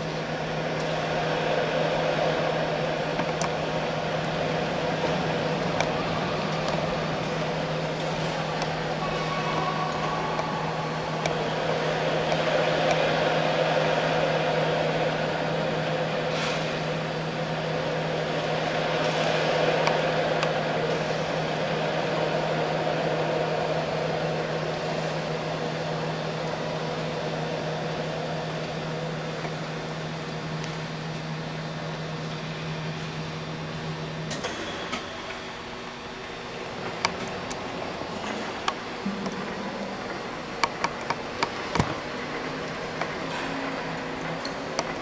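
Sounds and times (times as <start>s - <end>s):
electric tow tractor motor: 0.0s - 45.0s
steady low hum: 0.0s - 45.0s.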